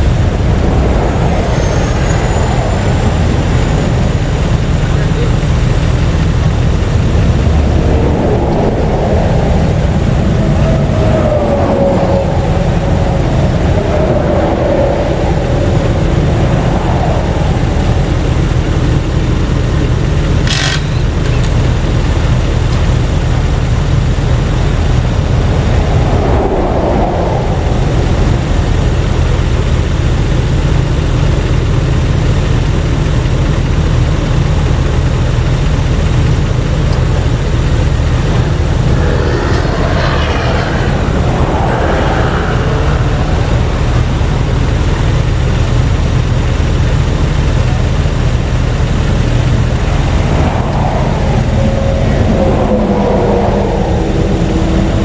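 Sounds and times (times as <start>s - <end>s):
heavy vehicle engine drone: 0.0s - 55.0s
road and traffic noise: 0.0s - 55.0s.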